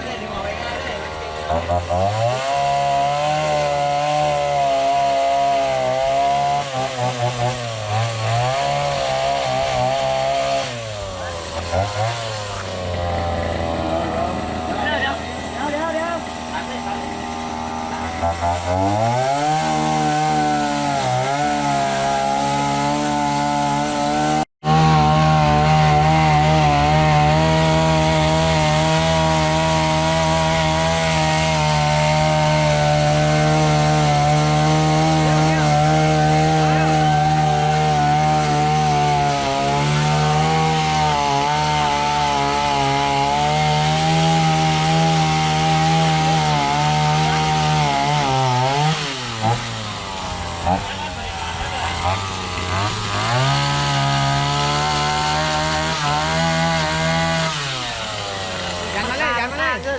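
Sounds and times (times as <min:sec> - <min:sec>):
chainsaw cutting timber: 0:00.0 - 0:59.9.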